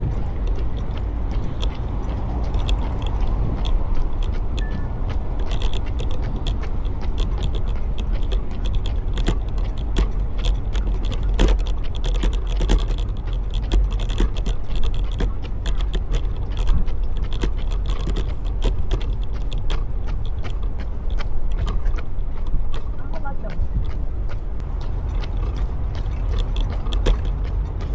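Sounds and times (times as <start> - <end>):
running footsteps: 0.0 - 27.9
wind rumble on microphone: 0.0 - 27.9.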